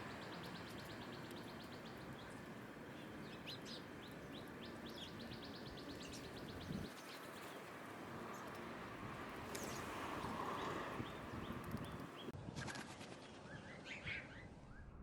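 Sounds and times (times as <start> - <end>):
outdoor background hiss: 0.0 - 12.4
small songbirds chirping: 0.0 - 12.4.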